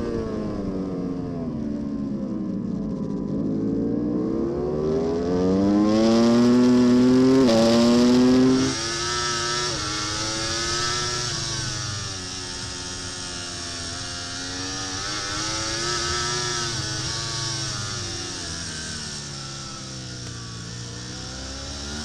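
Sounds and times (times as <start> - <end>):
superbike engine accelerating: 0.0 - 22.0.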